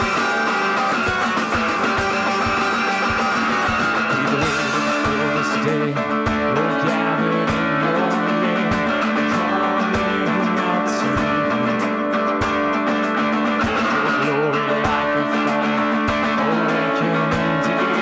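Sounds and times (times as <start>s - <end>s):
people singing: 0.0s - 12.0s, 13.6s - 18.0s
strummed acoustic guitar: 0.0s - 18.0s.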